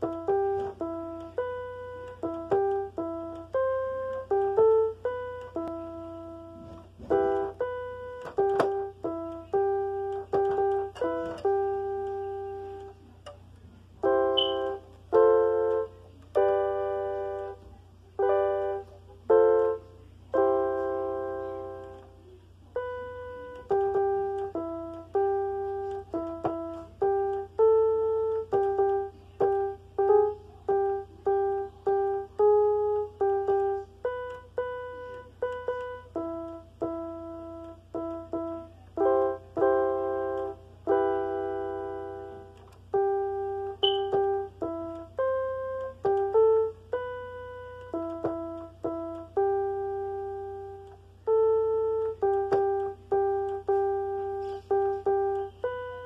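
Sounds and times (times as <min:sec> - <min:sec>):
slow simple piano melody: 0:00.0 - 0:56.0.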